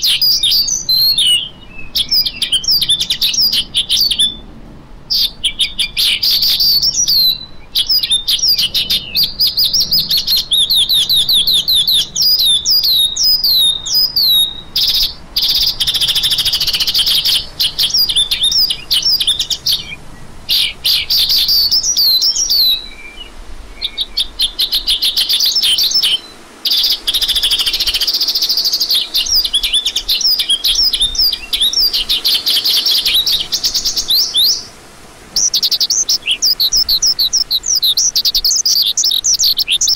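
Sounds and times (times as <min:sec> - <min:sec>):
lark singing: 0:00.0 - 0:04.5, 0:05.1 - 0:39.9.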